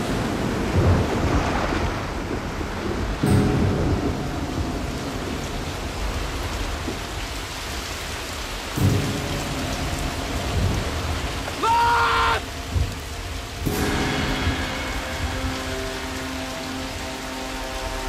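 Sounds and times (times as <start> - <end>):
heavy rain pouring: 0.0 - 18.0
thunder rumble: 0.0 - 18.0.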